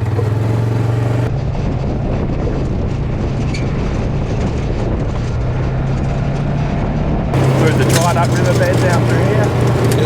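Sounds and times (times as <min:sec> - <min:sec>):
engine running steadily: 0:00.0 - 0:10.0
vehicle body rattling: 0:00.0 - 0:10.0.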